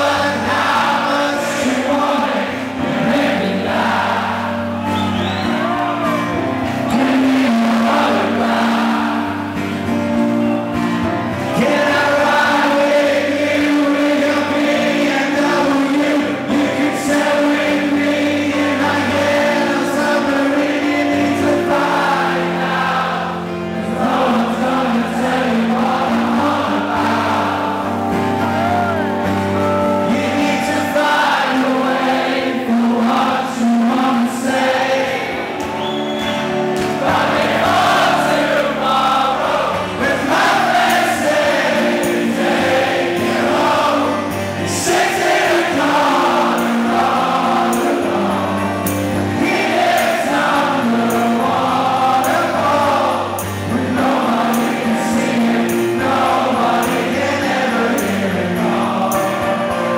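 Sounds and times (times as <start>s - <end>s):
man singing: 0.0s - 4.3s, 4.9s - 9.7s, 11.4s - 35.6s, 37.2s - 59.9s
live rock band playing: 0.0s - 59.9s.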